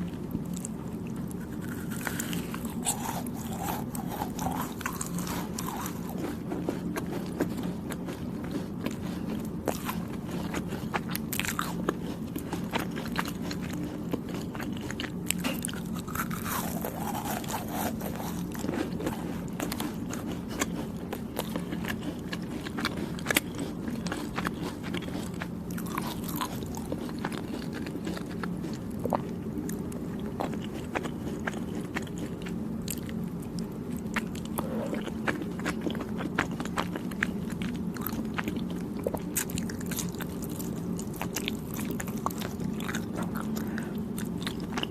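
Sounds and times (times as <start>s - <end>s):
mouth chewing with wet clicks: 0.0s - 44.9s
steady low hum: 0.0s - 44.9s.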